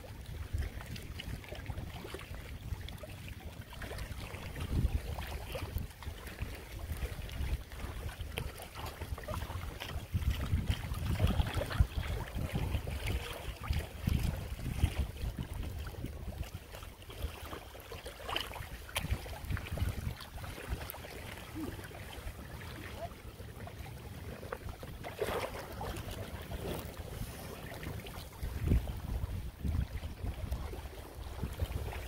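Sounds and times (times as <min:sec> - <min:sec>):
wind buffeting microphone: 0:00.0 - 0:17.6, 0:18.4 - 0:32.0
water lapping: 0:00.0 - 0:32.0.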